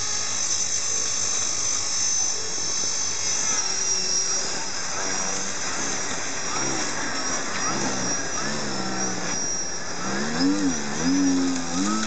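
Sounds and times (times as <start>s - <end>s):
low wavering tones: 0.0s - 12.0s
model plane motor whine: 0.0s - 12.0s.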